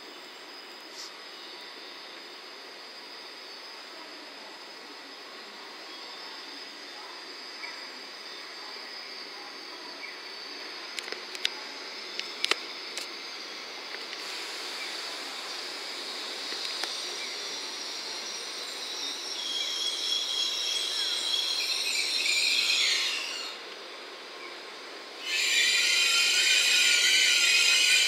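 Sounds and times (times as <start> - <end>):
train whine and squeal: 0.0 - 28.0.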